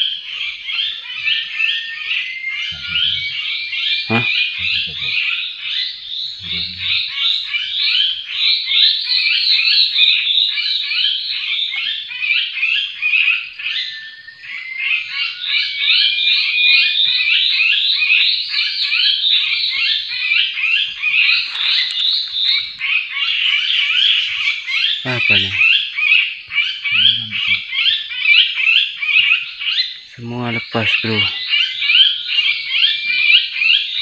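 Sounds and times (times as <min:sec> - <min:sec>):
small birds chirping rapidly: 0:00.0 - 0:34.0.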